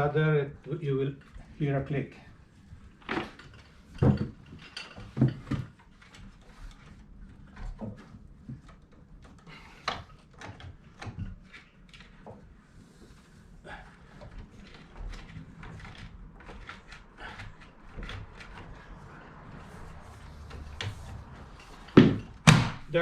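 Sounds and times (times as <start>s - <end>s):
window frames knocking and clicking: 2.8s - 12.6s, 14.0s - 23.0s.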